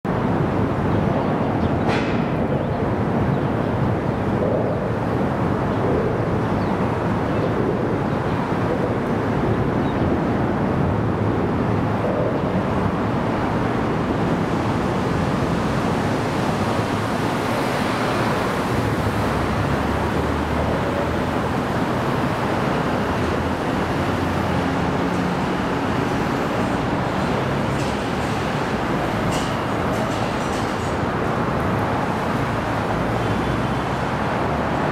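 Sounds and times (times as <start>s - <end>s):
street traffic noise: 0.0s - 34.9s.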